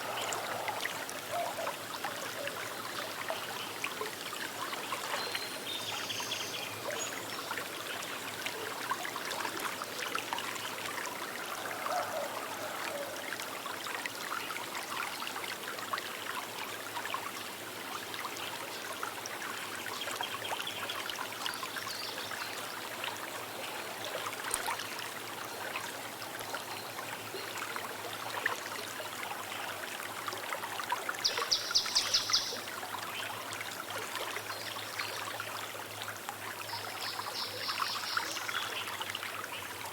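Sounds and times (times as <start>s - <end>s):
river trickling over stones: 0.0s - 39.9s.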